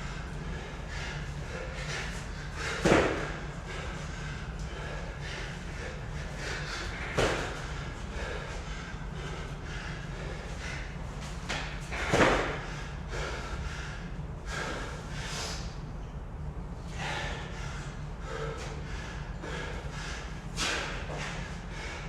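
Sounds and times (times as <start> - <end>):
person breathing hard: 0.0 - 15.9, 16.8 - 22.0
steady low hum: 0.0 - 22.0.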